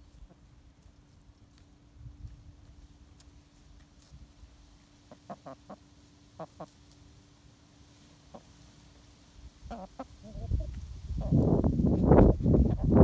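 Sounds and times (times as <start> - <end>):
chickens clucking: 0.0 - 4.2, 4.8 - 7.0, 7.9 - 8.9, 9.5 - 13.0.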